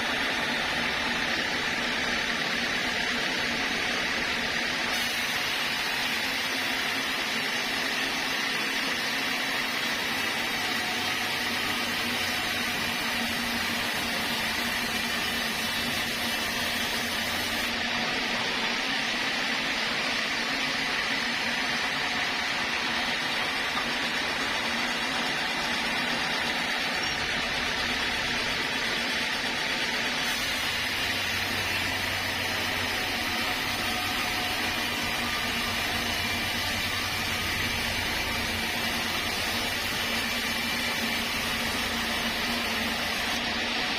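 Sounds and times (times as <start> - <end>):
high-pitched machine hum: 0.0 - 43.9
sawmill saw machinery running: 0.0 - 43.9.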